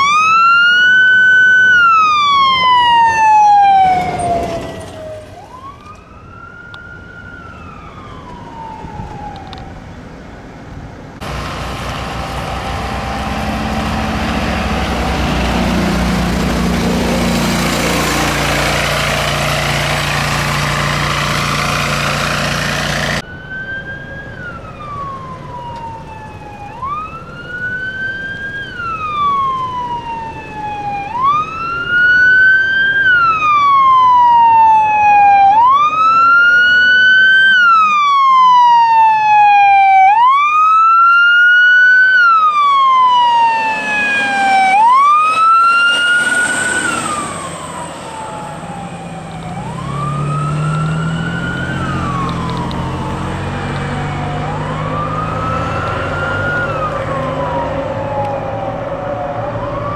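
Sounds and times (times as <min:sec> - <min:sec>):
siren wailing: 0:00.0 - 0:10.0, 0:12.6 - 0:59.9
truck engine rumble: 0:00.0 - 0:59.9.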